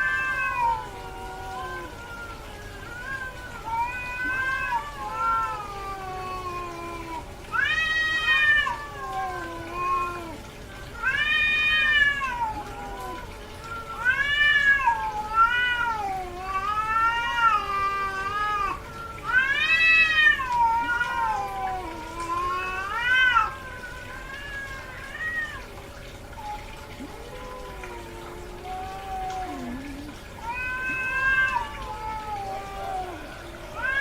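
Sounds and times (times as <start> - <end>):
cat meowing: 0.0 - 25.7, 26.4 - 34.0.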